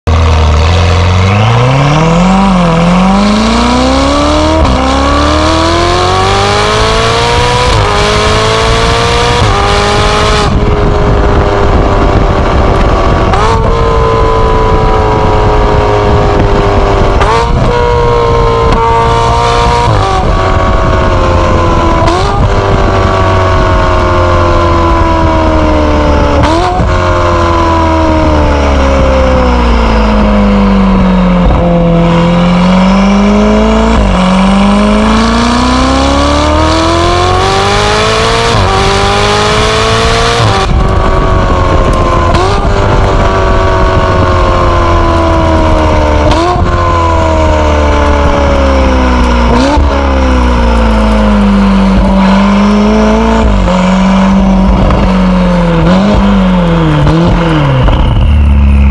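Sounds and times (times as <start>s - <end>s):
sports car exhaust note: 0.1s - 58.9s.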